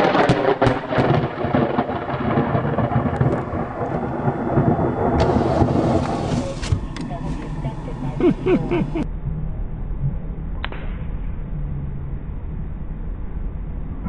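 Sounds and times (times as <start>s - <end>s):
thunder cracking and rumbling: 0.0s - 14.0s.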